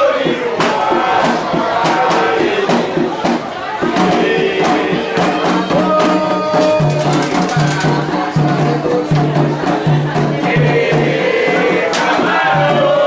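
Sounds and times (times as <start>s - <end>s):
hand drums beating: 0.0s - 13.0s
people chanting: 0.0s - 13.0s.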